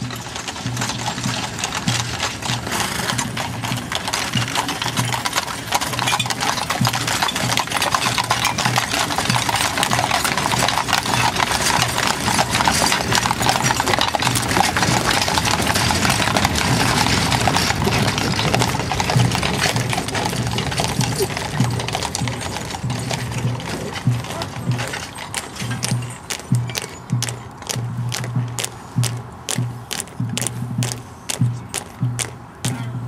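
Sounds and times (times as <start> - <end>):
horses' hooves clip-clopping on pavement: 0.0 - 33.0
wheels rumbling along: 0.0 - 33.0.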